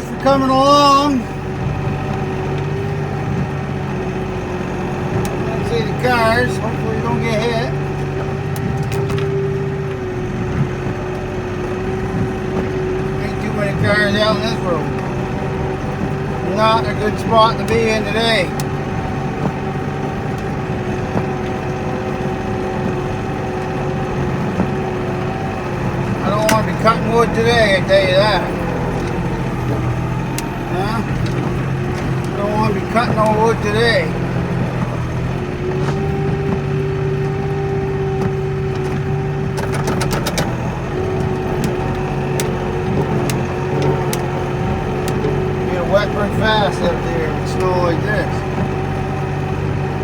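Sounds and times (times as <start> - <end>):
engine whine: 0.0 - 50.0
tractor diesel engine running: 0.0 - 50.0
sharp clicks and rattles: 0.2 - 50.0.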